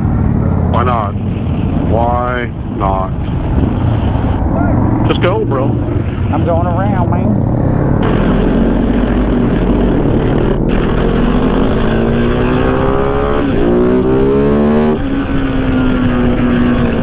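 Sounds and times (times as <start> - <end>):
heavy wind noise: 0.0 - 17.0
motorcycle engine accelerating: 0.0 - 17.0.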